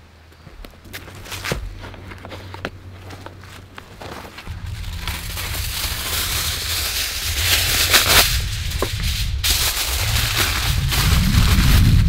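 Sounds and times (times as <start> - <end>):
aluminium foil crinkling: 1.2 - 12.0.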